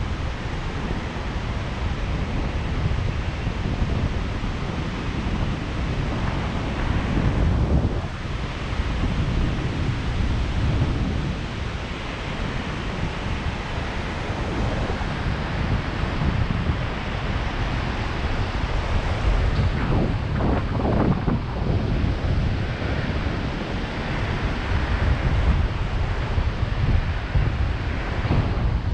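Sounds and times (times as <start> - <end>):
wind buffeting the microphone: 0.0 - 28.9.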